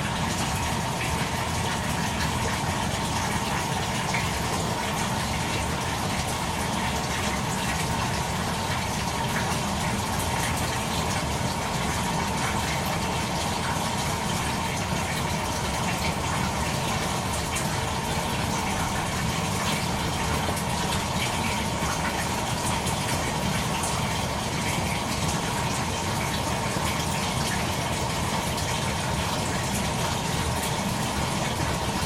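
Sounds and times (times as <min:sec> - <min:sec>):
faint constant hum: 0:00.0 - 0:32.0
water rushing in washing machine: 0:00.0 - 0:32.0.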